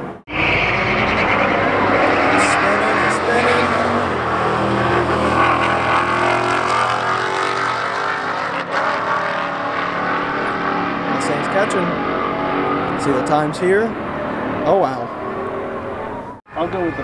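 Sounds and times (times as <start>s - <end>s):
cars accelerating hard: 0.2s - 17.0s.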